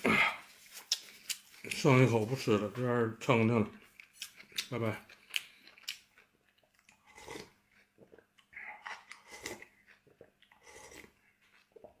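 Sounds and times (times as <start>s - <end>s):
person chewing: 0.0s - 1.9s, 3.7s - 12.0s.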